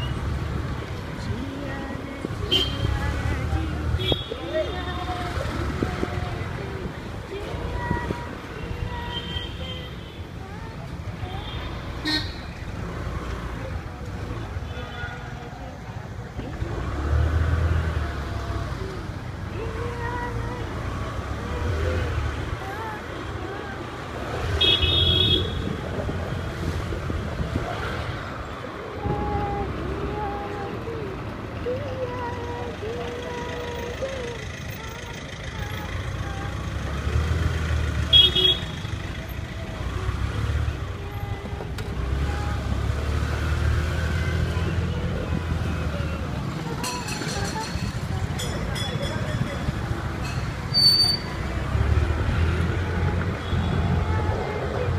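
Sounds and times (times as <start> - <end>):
bike road and wind rumble: 0.0 - 54.9.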